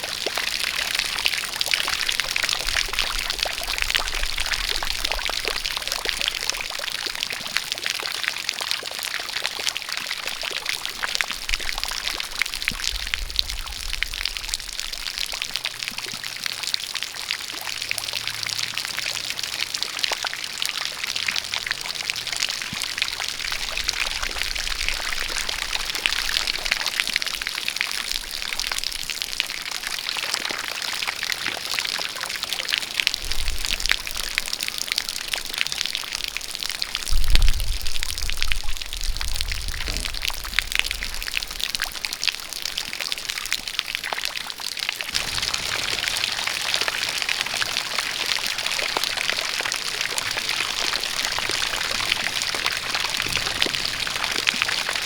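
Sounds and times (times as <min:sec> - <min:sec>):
rain falling: 0:00.0 - 0:55.0
water pouring and splashing: 0:00.0 - 0:55.0.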